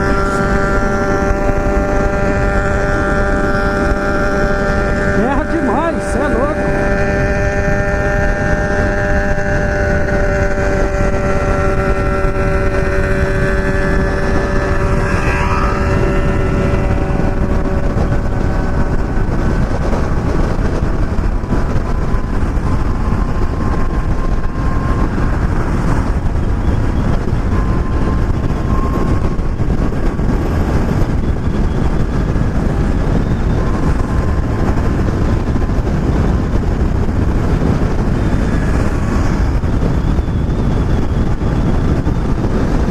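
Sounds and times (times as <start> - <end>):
motorcycle engine: 0.0 - 42.9
wind rushing over microphone: 0.0 - 42.9.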